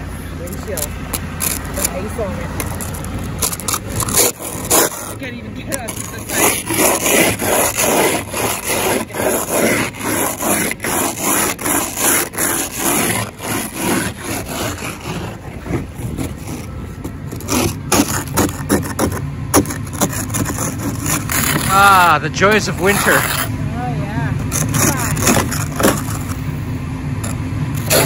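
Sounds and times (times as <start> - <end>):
ice scraper scraping windshield: 0.4 - 23.6, 24.4 - 26.6, 27.2 - 28.0.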